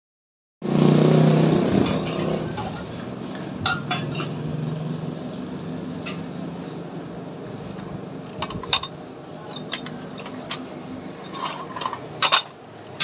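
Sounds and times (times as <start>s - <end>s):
low mechanical hum: 1.7s - 13.0s.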